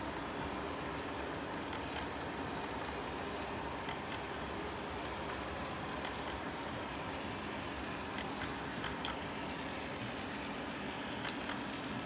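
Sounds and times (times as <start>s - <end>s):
model train wheels rumbling: 0.0s - 12.0s.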